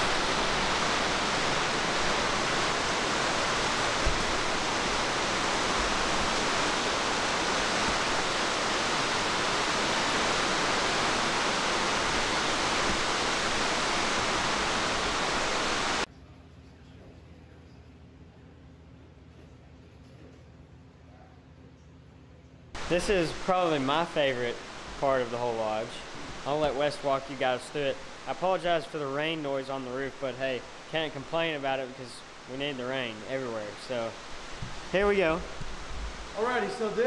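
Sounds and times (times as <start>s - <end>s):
heavy rain on a metal roof: 0.0s - 16.1s, 22.8s - 37.0s.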